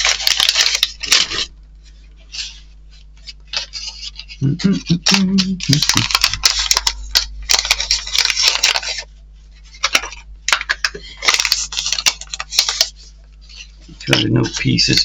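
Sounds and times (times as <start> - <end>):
packaging rustling: 0.0 - 1.5, 2.4 - 15.0.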